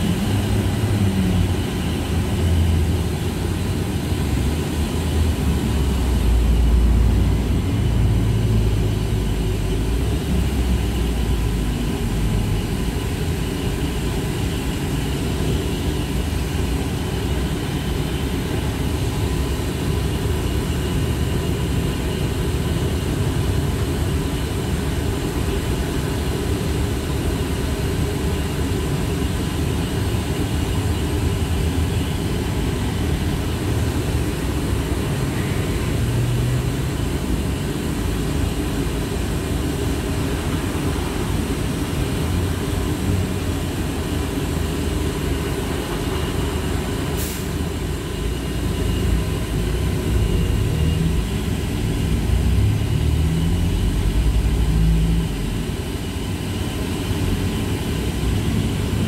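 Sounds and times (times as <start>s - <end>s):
trolleybus interior rumble: 0.0s - 55.8s.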